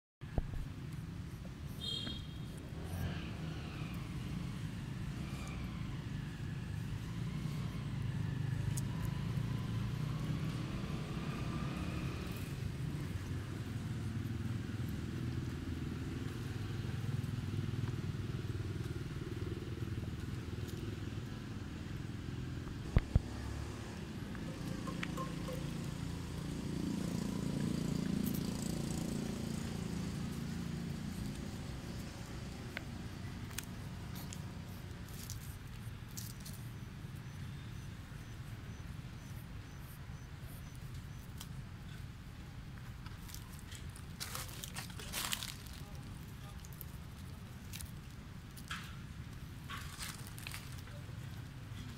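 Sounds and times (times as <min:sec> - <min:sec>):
low rumble of traffic: 0:00.2 - 0:51.9.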